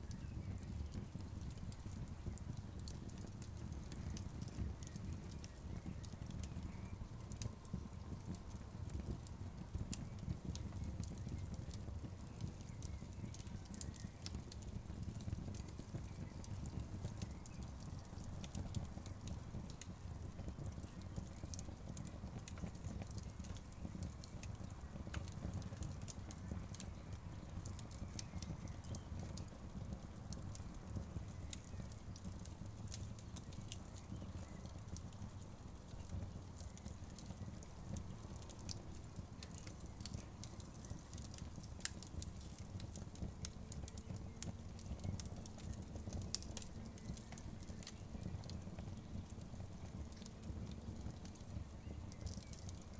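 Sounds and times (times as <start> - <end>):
burning logs crackling: 0.0 - 52.9
low fire rumble: 0.0 - 52.9.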